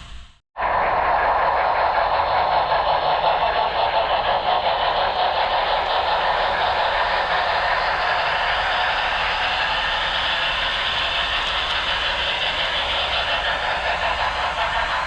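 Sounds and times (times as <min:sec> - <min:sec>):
model train running: 0:00.6 - 0:15.0.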